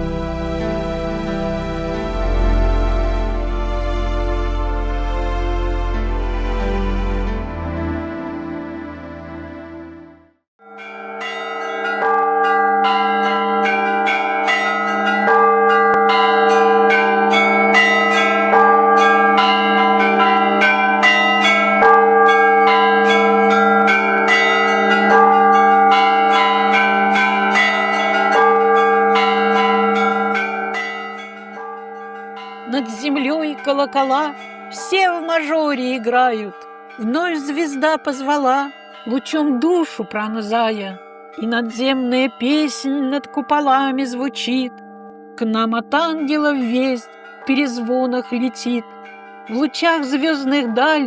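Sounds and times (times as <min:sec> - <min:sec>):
church bells pealing: 0:00.0 - 0:10.0, 0:10.6 - 0:51.0.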